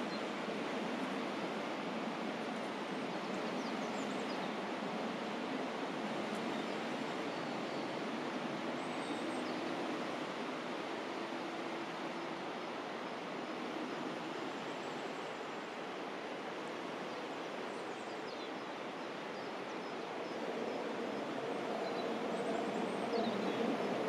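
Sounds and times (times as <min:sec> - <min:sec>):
train on viaduct: 0:00.0 - 0:17.9, 0:18.6 - 0:24.0.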